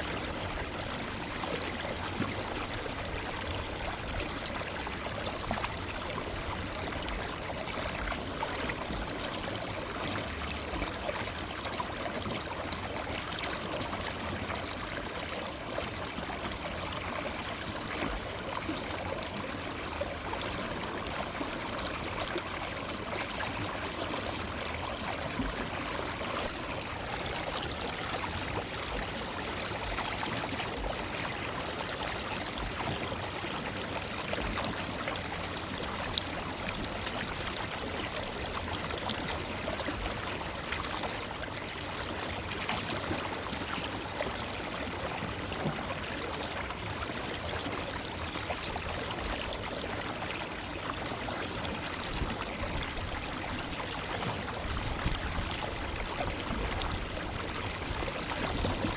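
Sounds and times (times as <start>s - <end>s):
river flowing over stones: 0.0s - 58.9s.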